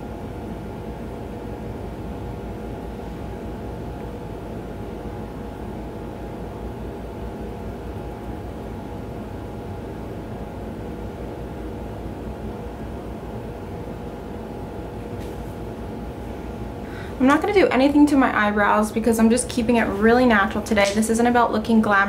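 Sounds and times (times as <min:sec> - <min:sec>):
steady machine hum with hiss: 0:00.0 - 0:22.0.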